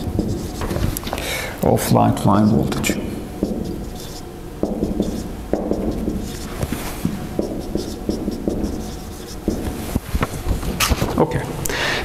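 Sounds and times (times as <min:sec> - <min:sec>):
marker writing on whiteboard: 0:00.0 - 0:01.2, 0:01.8 - 0:11.1.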